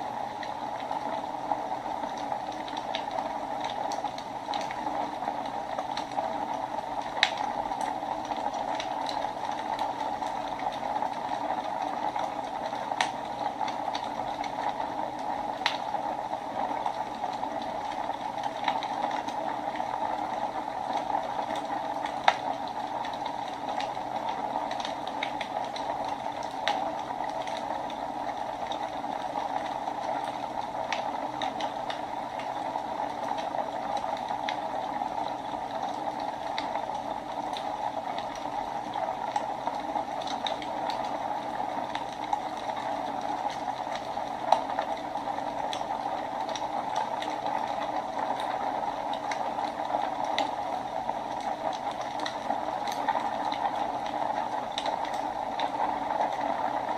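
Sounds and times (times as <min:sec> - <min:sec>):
fire crackles and pops: 0:00.0 - 0:56.9
fire flames hissing: 0:00.0 - 0:56.9.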